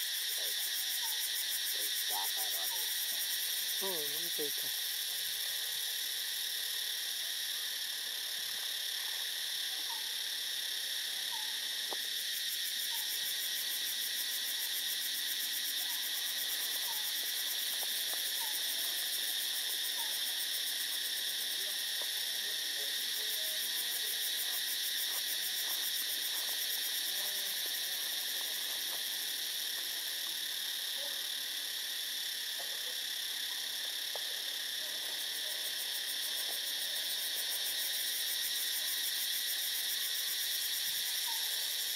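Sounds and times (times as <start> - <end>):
forest insects chorus: 0.0 - 41.9.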